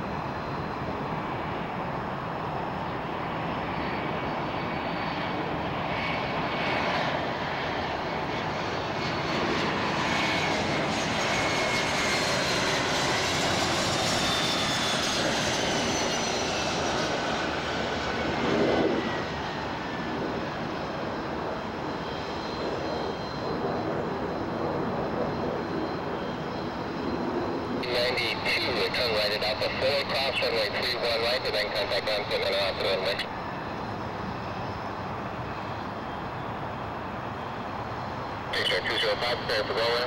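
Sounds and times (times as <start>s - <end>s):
high turbine whine: 0.0s - 40.0s
jet engine roar: 0.0s - 40.0s.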